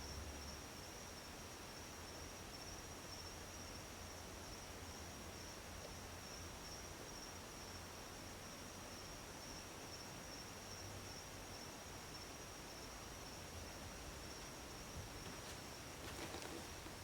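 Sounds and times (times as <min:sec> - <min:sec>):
background hiss: 0:00.0 - 0:17.0
crickets chirring: 0:00.0 - 0:17.0.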